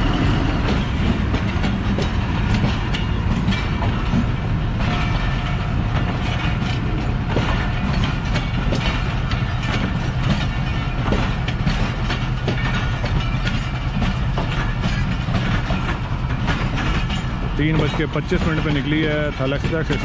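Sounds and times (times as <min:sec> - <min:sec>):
train low rumble: 0:00.0 - 0:20.0
train wheels clicking over rail joints: 0:00.0 - 0:20.0.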